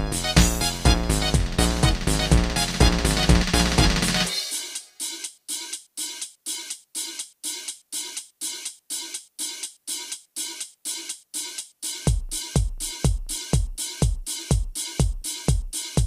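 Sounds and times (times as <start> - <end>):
electronic percussion beat: 0.0 - 16.0.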